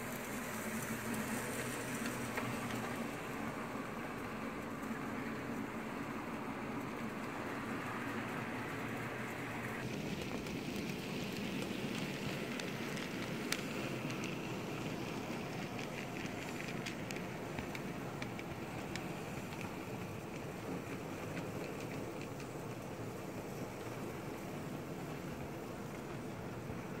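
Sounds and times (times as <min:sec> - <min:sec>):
model train whirring: 0:00.0 - 0:27.0
wheels clicking over track: 0:00.0 - 0:27.0.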